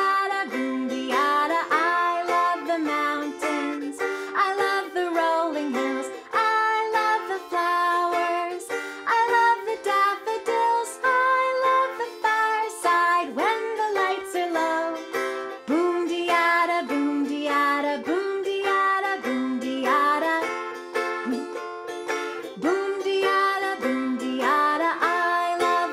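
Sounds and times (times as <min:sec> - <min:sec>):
woman singing: 0:00.0 - 0:21.6, 0:22.4 - 0:25.9
banjo ukulele strumming: 0:00.0 - 0:25.9.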